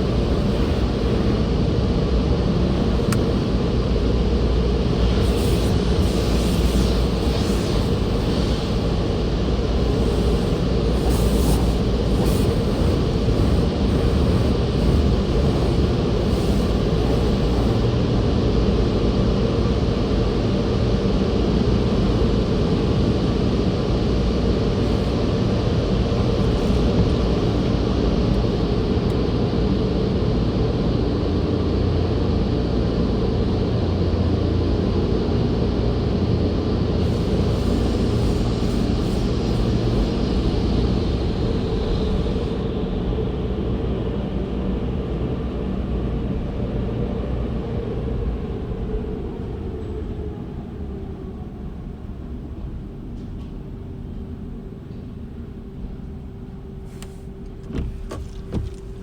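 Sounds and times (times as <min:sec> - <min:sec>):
car wash equipment rumble and hiss: 0:00.0 - 0:59.0.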